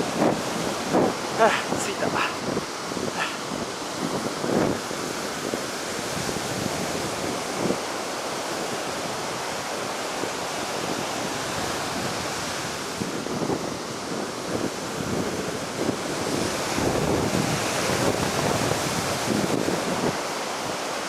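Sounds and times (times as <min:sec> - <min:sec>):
heavy ocean surf: 0:00.0 - 0:21.0
wind buffeting microphone: 0:00.0 - 0:21.0.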